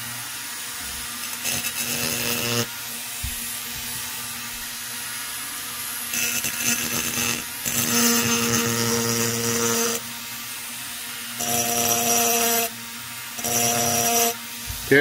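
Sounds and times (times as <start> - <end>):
rotary tool grinding metal: 0.0 - 15.0
rotary tool motor whining: 0.0 - 15.0.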